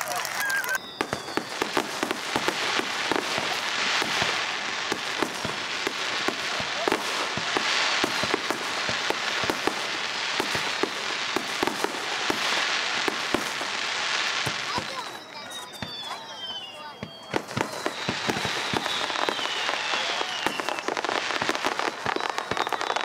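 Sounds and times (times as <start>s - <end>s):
fireworks crackling and banging: 0.0s - 23.0s.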